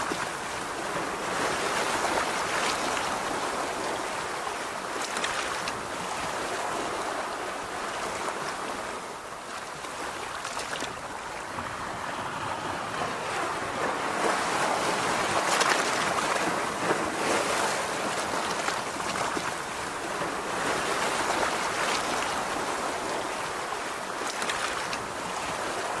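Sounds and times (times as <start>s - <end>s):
ocean waves washing onto beach: 0.0s - 26.0s.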